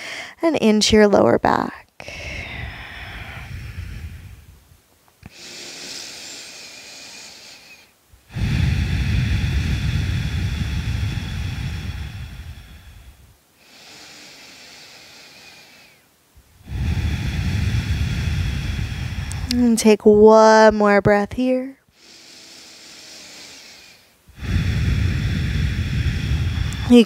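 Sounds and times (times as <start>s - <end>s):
woman breathing deeply: 0.0s - 0.4s, 2.0s - 19.6s, 21.8s - 27.0s.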